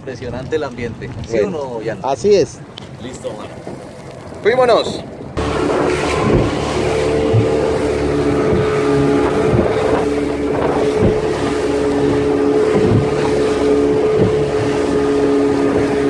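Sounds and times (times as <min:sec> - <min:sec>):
hull slapping waves: 0:00.0 - 0:16.0
wind and water rushing: 0:00.0 - 0:16.0
motorboat engine running: 0:02.4 - 0:16.0.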